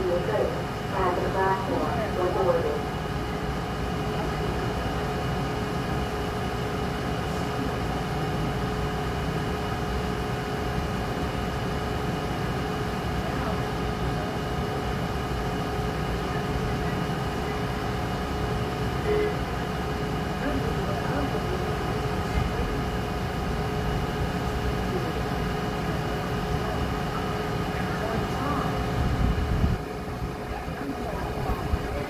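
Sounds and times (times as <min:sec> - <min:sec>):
steady hum of held tones: 0:00.0 - 0:32.0.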